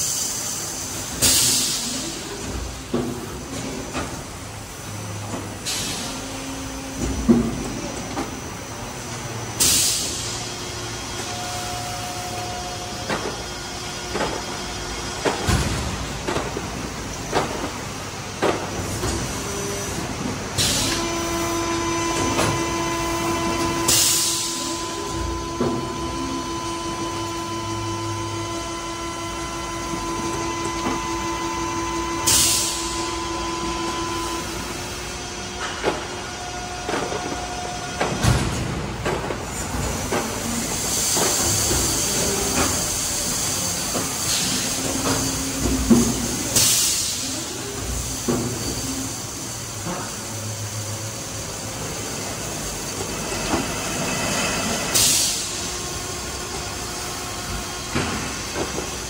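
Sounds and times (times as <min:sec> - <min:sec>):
steady machine whine: 0:00.0 - 0:59.0.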